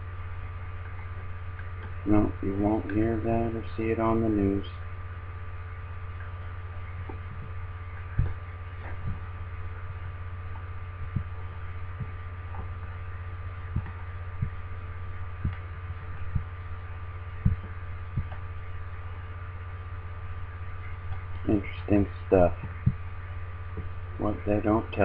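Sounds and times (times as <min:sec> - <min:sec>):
soft low thumps: 0:00.0 - 0:24.2
faint steady tones: 0:00.0 - 0:25.0
low electrical hum: 0:00.0 - 0:25.0.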